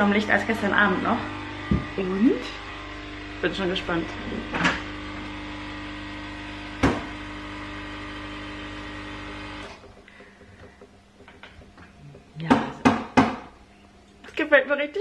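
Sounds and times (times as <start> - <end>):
coffee machine humming: 0.0 - 14.2.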